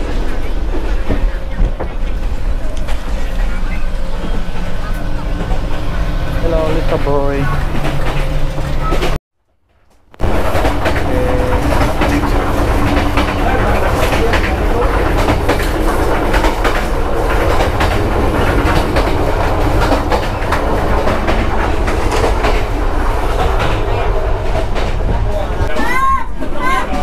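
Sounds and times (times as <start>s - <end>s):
train carriage rumble: 0.0s - 9.2s, 9.8s - 27.0s
wheels clacking over rail joints: 0.0s - 27.0s.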